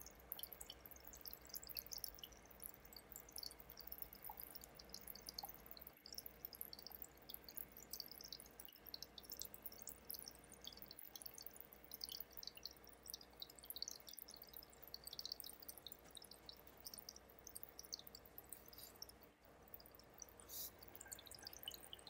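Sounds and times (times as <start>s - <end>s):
faint low hum: 0.0s - 22.0s
tiny fizzing bubble ticks: 0.0s - 22.0s.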